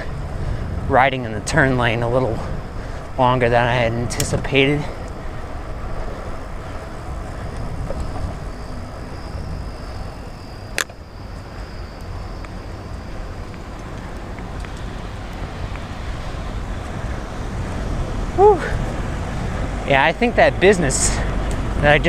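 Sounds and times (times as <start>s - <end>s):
bicycle road noise: 0.0s - 22.0s
rushing wind: 0.0s - 22.0s.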